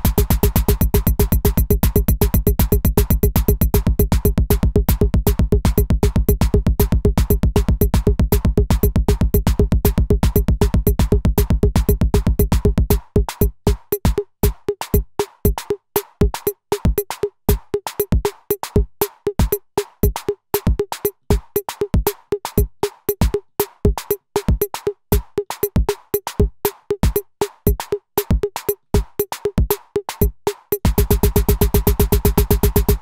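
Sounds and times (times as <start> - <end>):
electronic drum pattern: 0.0 - 33.0.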